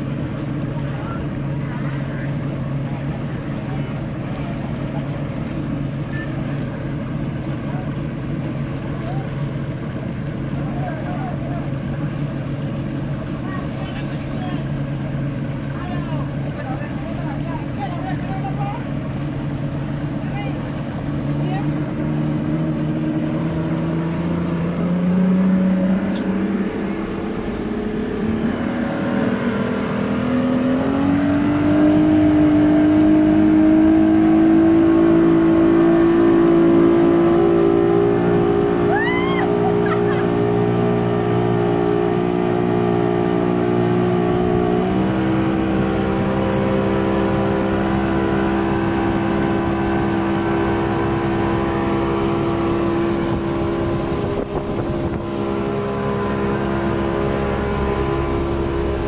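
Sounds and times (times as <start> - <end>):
outboard motor running hard: 0.0 - 59.0
water rushing in wake: 0.0 - 59.0.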